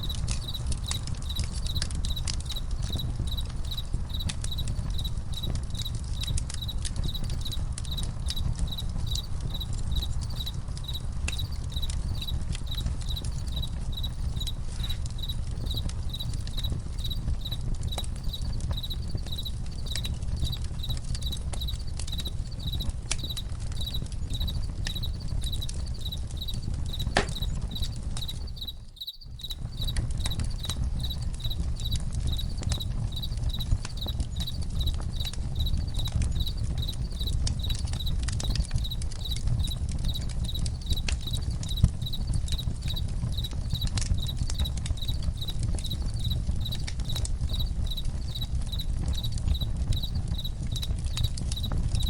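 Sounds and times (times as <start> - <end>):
campfire crackling and popping: 0.0 - 52.0
crickets chirping: 0.0 - 52.0.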